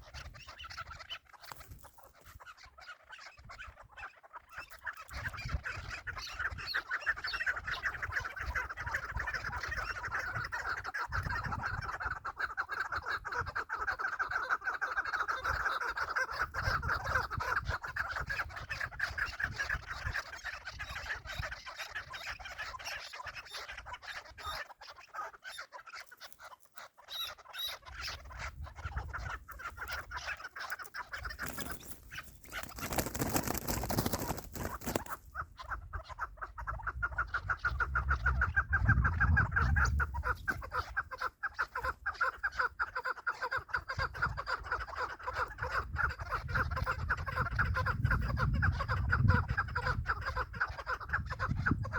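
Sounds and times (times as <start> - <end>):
partridges calling: 0.0 - 51.9.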